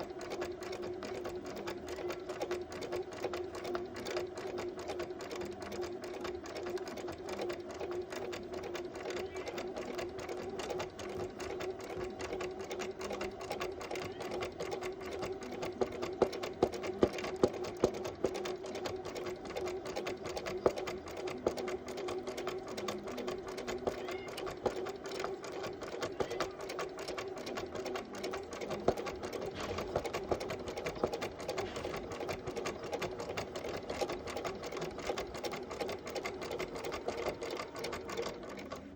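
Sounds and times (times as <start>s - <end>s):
sewing machine running: 0.0s - 38.9s.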